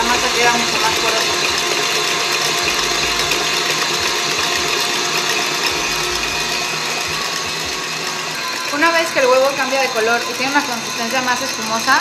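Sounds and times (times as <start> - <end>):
stand mixer running: 0.0 - 12.0.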